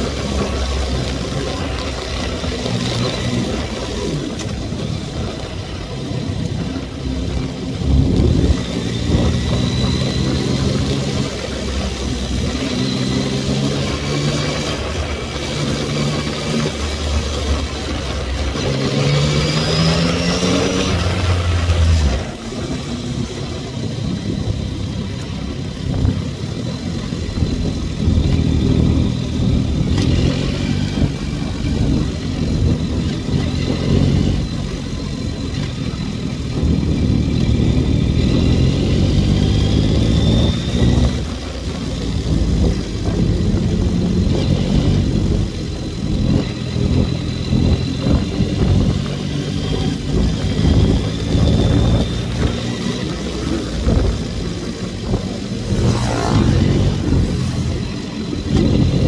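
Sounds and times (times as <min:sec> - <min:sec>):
motorcycle engine accelerating: 0:00.0 - 0:59.0
wind noise on microphone: 0:00.0 - 0:59.0.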